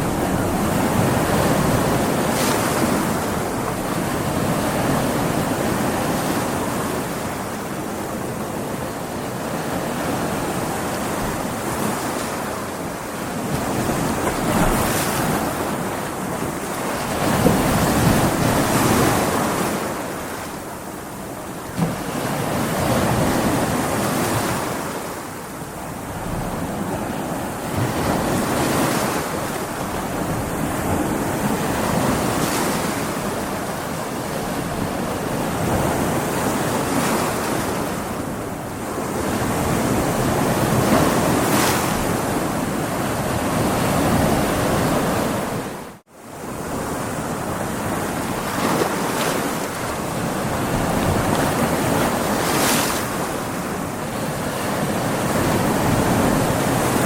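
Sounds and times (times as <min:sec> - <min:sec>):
heavy waves breaking: 0:00.0 - 0:57.0
strong wind: 0:00.0 - 0:57.0.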